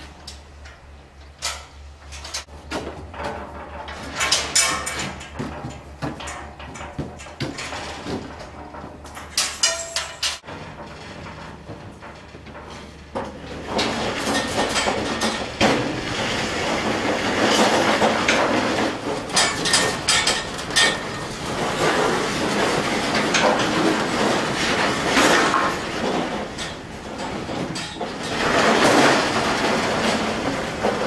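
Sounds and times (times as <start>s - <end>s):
metal trailer deck clanking: 0.0s - 31.0s.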